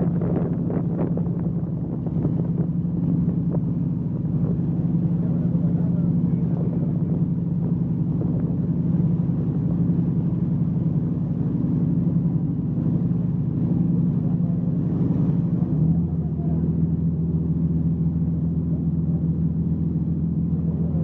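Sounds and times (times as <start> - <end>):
motor boat engine droning: 0.0 - 21.0.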